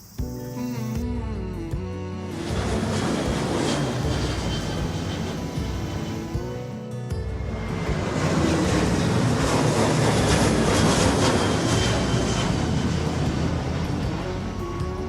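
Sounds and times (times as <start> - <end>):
jet airliner passing overhead: 2.2 - 15.0.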